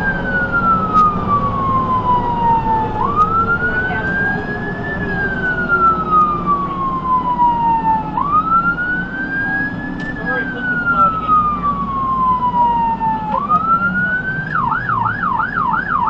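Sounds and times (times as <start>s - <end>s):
ambulance siren wailing: 0.0s - 16.0s
engine and road noise: 0.0s - 16.0s.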